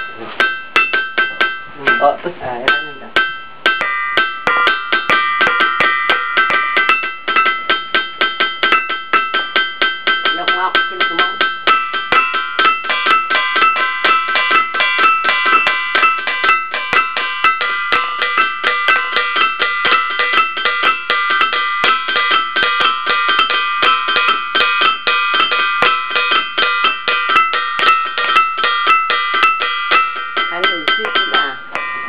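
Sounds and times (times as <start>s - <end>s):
ringing stones struck rapidly: 2.7s - 32.0s.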